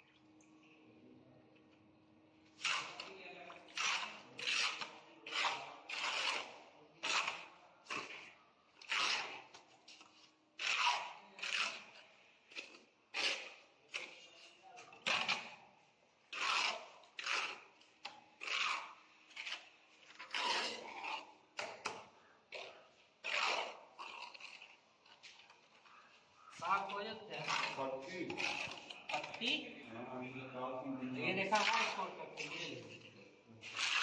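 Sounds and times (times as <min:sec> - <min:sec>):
trowel scraping mortar: 0:02.5 - 0:29.7, 0:31.2 - 0:34.0.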